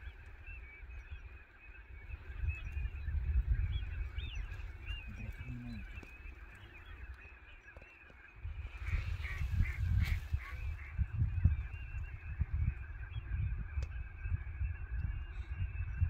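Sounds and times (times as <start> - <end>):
waterfowl flock calling: 0.0 - 13.3
wind rumbling on microphone: 0.0 - 16.0.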